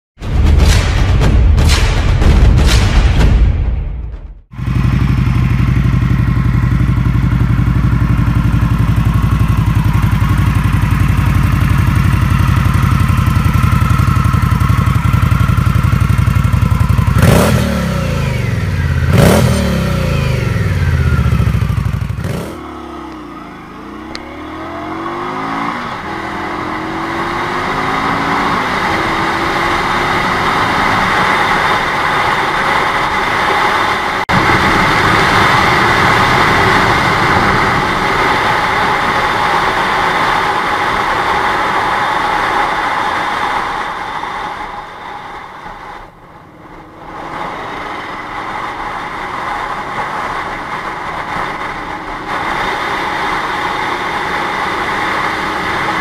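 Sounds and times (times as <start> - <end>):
motorcycle engine idling and revving: 4.4 - 56.0
motorcycle accelerating through gears: 4.6 - 56.0.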